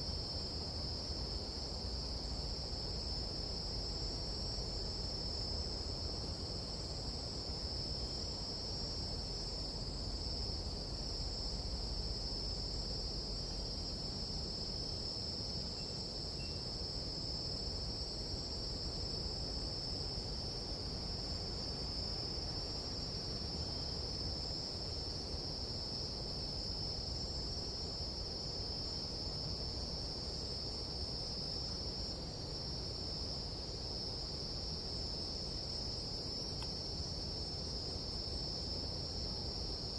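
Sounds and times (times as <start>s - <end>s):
insects chorusing: 0.0s - 39.9s.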